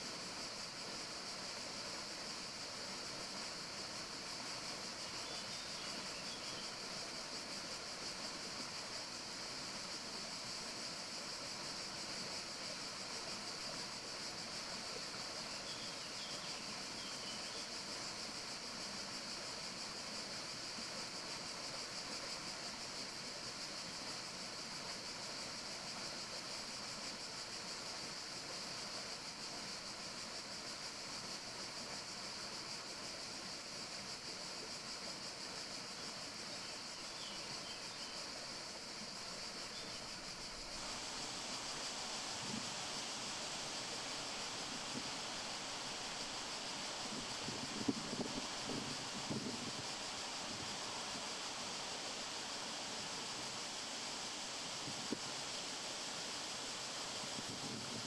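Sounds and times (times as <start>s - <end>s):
forest ambience hiss: 0.0s - 58.0s.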